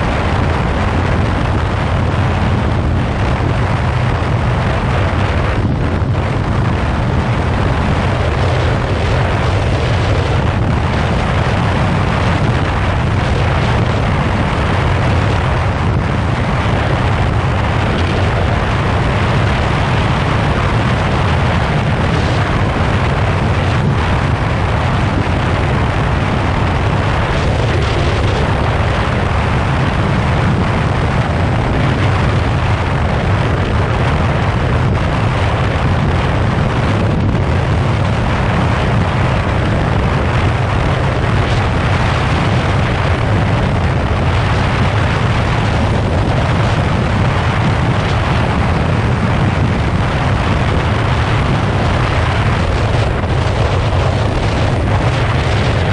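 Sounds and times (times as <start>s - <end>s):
motorcycle engine running: 0.0s - 55.9s
wind buffeting microphone: 0.0s - 55.9s.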